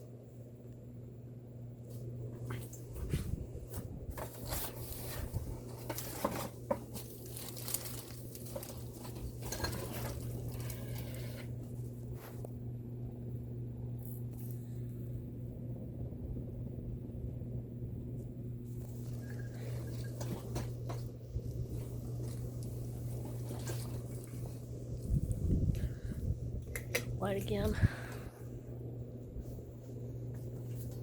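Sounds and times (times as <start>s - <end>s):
ceiling fan motor hum: 0.0s - 31.0s.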